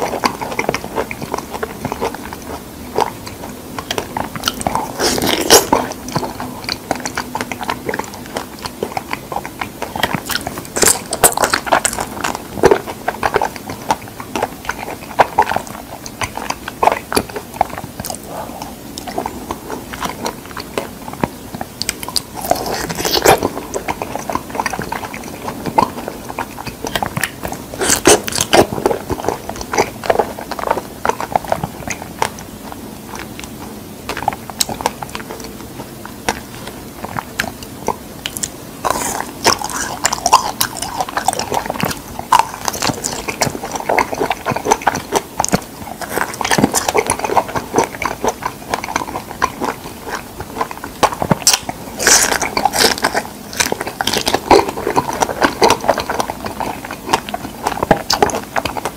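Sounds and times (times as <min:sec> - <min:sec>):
biting and chewing: 0:00.0 - 0:58.9
mouth clicks and smacks: 0:00.0 - 0:58.9.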